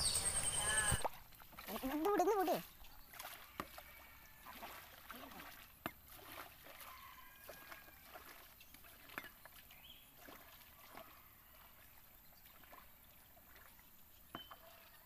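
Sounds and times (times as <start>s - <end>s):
paddling splashes in water: 0.0s - 15.0s.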